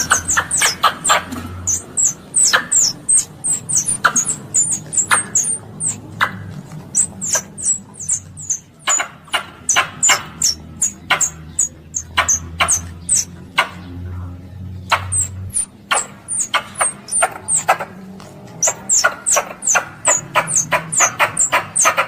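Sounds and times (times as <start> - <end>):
squirrel chirping: 0.0 - 14.0, 14.8 - 22.0.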